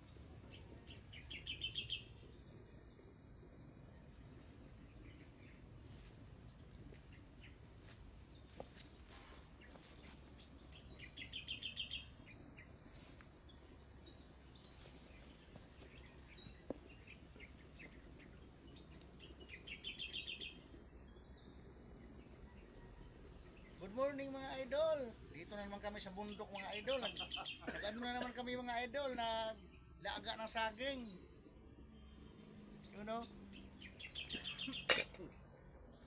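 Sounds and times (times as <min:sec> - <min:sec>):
faint outdoor background noise: 0:00.0 - 0:36.0.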